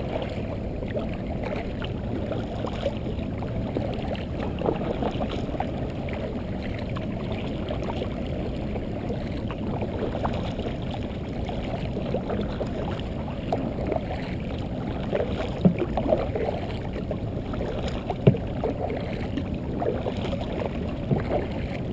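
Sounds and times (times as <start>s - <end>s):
low rush of water and wind: 0.0s - 21.9s
paddle strokes: 0.0s - 21.9s
water lapping against kayak hull: 0.0s - 21.9s.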